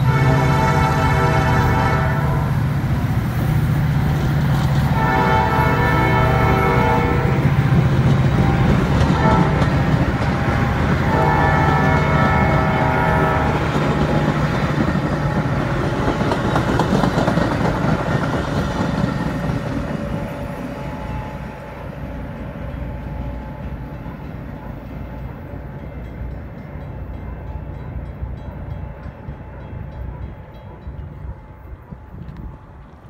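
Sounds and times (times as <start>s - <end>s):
train cars rumbling on rails: 0.0s - 33.0s.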